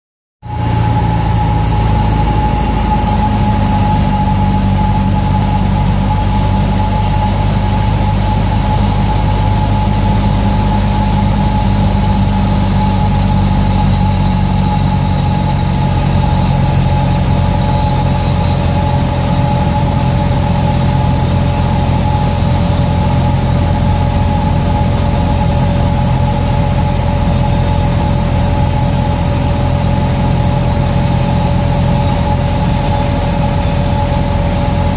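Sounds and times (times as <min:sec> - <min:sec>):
airplane engine drone: 0:00.4 - 0:34.9
thin steady whine: 0:00.4 - 0:34.9.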